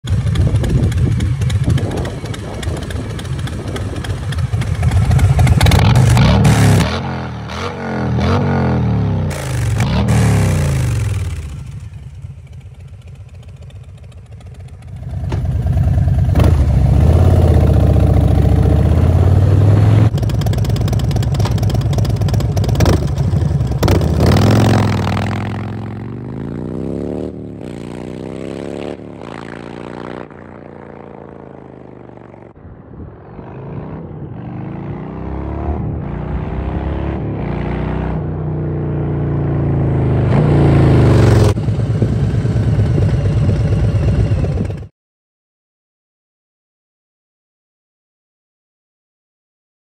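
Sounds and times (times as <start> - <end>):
motorcycle shifting through gears: 0.0 - 32.6, 33.2 - 44.9
motorcycle engine revving: 0.0 - 44.9.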